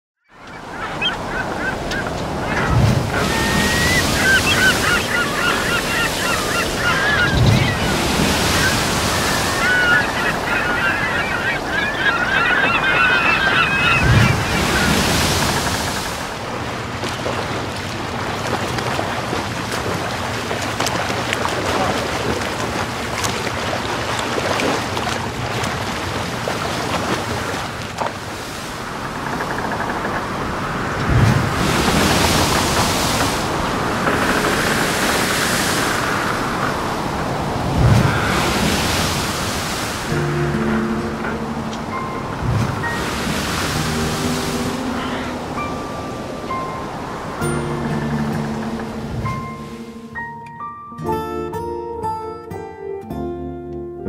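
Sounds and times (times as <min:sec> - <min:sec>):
birds calling: 0:00.2 - 0:50.3
waves breaking on beach: 0:00.3 - 0:50.2.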